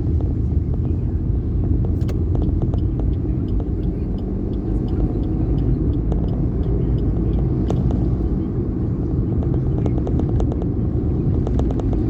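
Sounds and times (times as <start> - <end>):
vehicle rumbling on road: 0.0 - 12.0.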